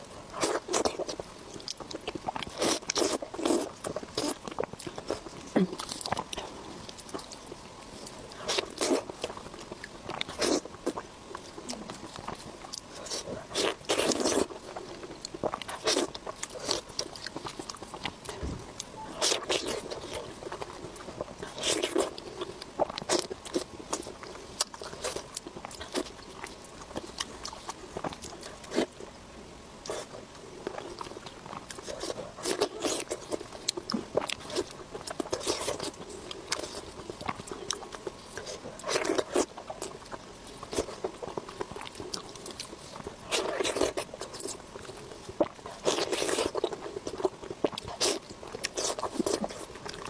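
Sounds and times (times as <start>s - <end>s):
biting and chewing: 0.0s - 29.1s, 29.8s - 50.0s.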